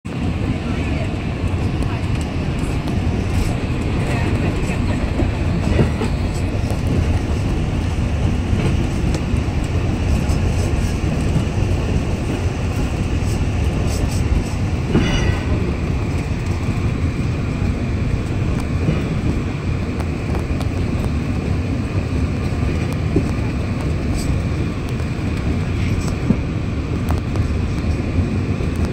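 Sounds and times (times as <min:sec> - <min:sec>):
train wheels rumbling on rails: 0:00.1 - 0:28.9.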